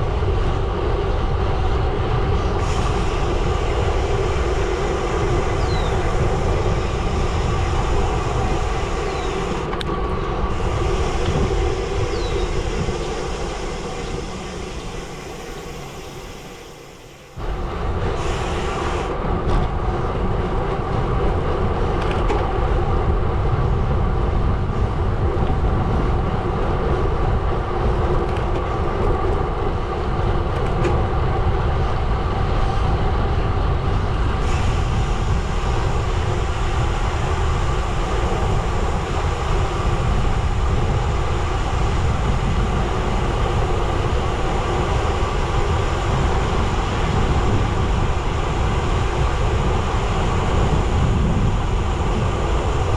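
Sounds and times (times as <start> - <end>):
wind on microphone: 0.0 - 52.9.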